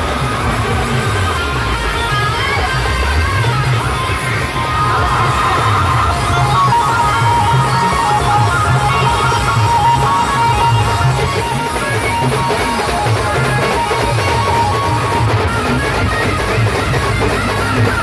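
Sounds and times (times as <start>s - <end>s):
loud amplified band music: 0.0s - 18.0s
side drums beaten with sticks: 0.0s - 18.0s.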